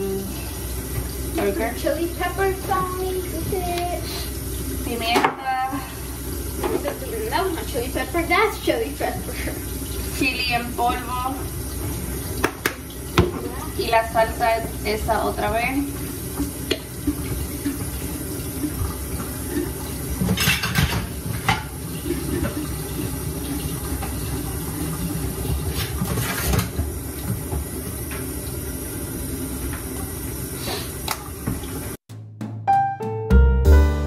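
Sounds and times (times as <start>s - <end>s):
faucet running into steel sink: 0.0s - 32.0s.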